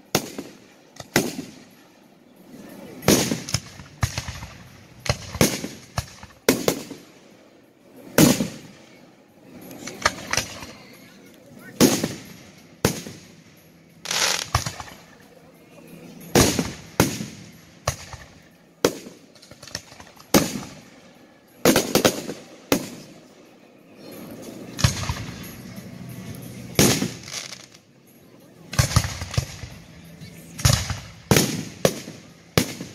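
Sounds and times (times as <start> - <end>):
fireworks booming with echo: 0.1 - 1.8, 3.0 - 7.3, 8.1 - 9.0, 9.6 - 15.3, 16.1 - 23.3, 24.7 - 27.8, 28.7 - 32.9.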